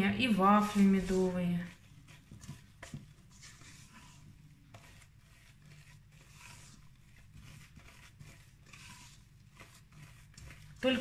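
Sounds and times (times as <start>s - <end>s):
spatula scraping dough in bowl: 0.0s - 11.0s.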